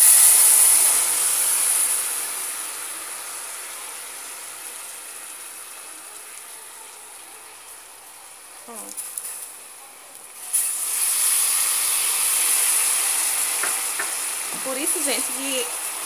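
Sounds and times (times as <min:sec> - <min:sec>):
hot caramel hissing and sputtering: 0:00.0 - 0:16.0
water pouring into pot: 0:00.0 - 0:16.0.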